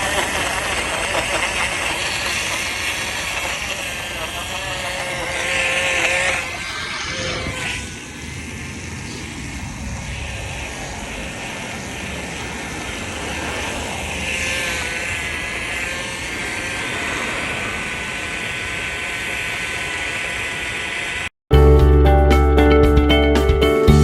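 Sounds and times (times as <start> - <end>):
electric blender running: 0.0 - 8.6, 10.1 - 21.2.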